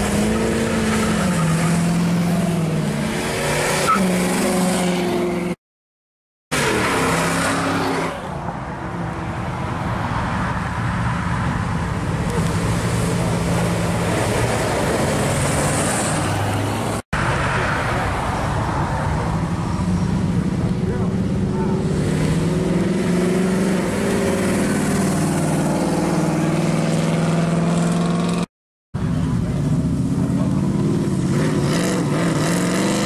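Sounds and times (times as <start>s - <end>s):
car engines driving away: 6.5s - 33.0s.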